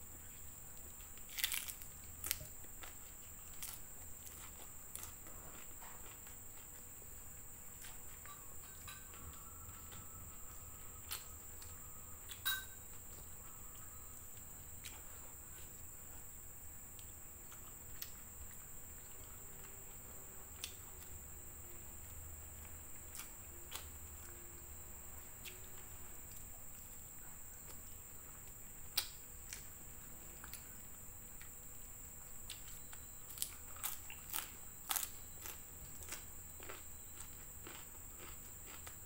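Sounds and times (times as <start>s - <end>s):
thin high-pitched whine: 3.1s - 28.4s, 29.1s - 39.0s.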